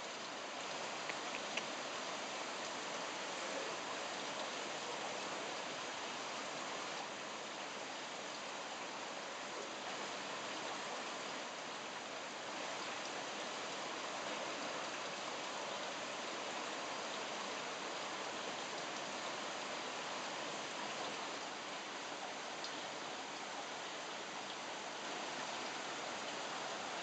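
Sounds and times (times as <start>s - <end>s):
water flowing through troughs: 0.0s - 27.0s.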